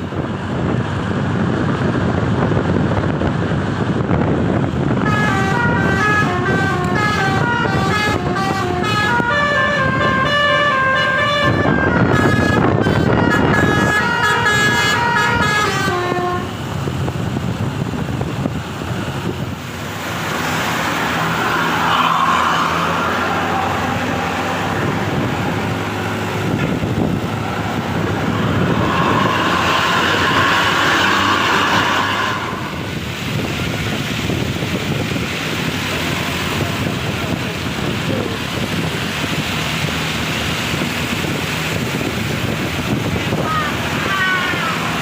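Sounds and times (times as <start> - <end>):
vehicle engines and tyre noise: 0.0 - 45.0.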